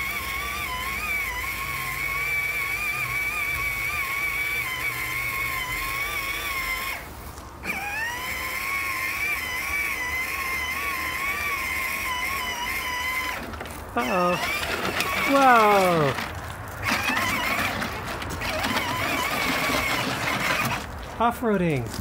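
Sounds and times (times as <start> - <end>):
electric toy motor whine: 0.0 - 20.9.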